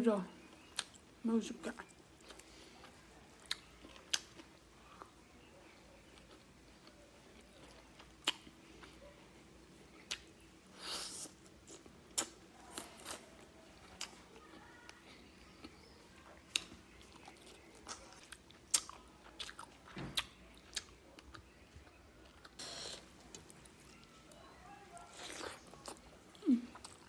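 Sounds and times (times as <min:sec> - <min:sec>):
chewing with wet clicks and smacks: 0:00.4 - 0:27.0.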